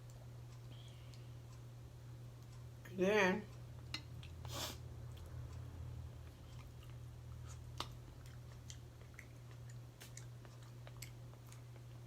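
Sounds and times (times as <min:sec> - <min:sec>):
person chewing food: 0:00.0 - 0:01.7, 0:03.6 - 0:12.0
steady low hum: 0:00.0 - 0:12.0.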